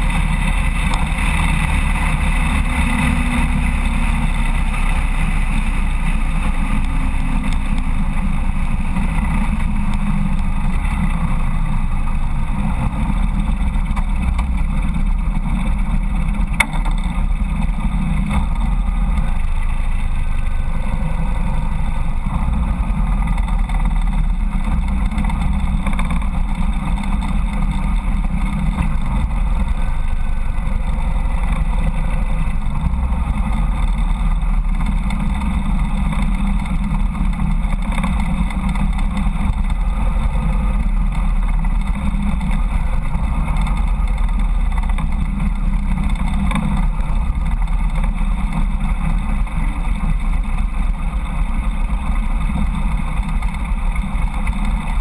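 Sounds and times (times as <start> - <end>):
motorcycle engine rumbling: 0.0 - 55.0
wind and road hiss: 0.0 - 55.0.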